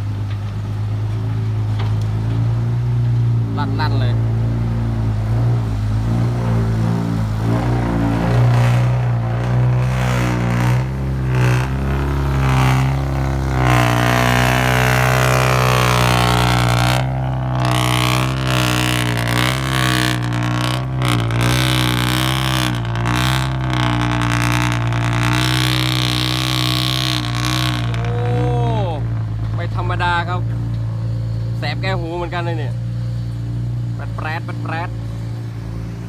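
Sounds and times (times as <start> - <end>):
diesel truck engine under load: 0.0 - 36.0
whine: 3.5 - 36.0.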